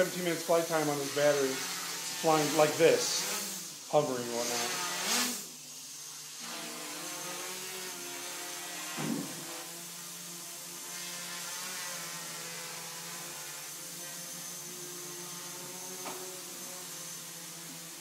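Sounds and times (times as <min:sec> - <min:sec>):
drone propellers whirring: 0:00.0 - 0:11.8, 0:12.4 - 0:18.0.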